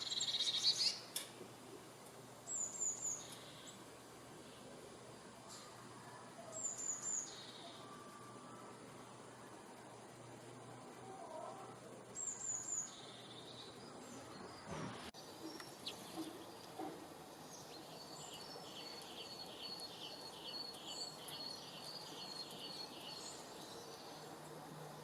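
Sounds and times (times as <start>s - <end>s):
birds singing: 0.0s - 1.2s, 1.8s - 4.8s, 5.4s - 9.8s, 11.2s - 25.0s
steady outdoor hiss: 0.0s - 25.0s.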